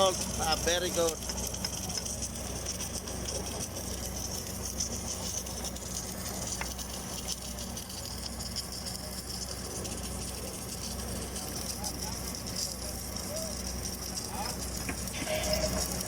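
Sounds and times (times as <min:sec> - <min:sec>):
welding equipment humming: 0:00.0 - 0:16.0.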